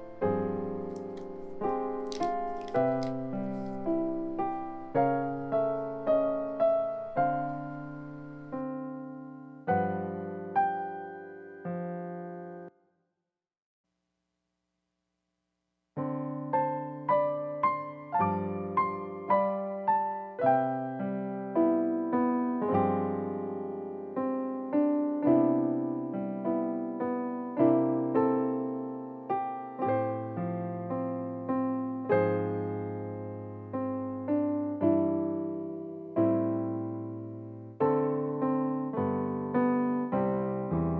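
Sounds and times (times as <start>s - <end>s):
gentle piano melody: 0.0s - 12.7s, 16.0s - 40.9s.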